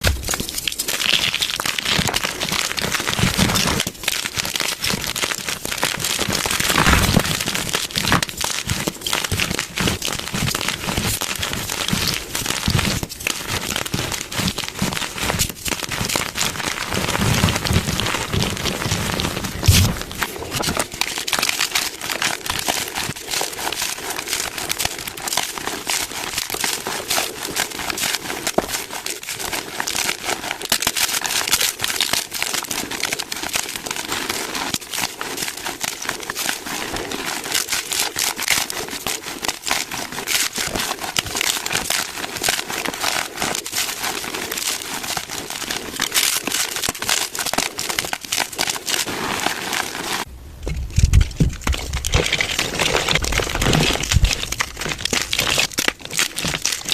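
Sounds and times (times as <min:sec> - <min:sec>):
chalk crunching: 0:00.0 - 0:56.9.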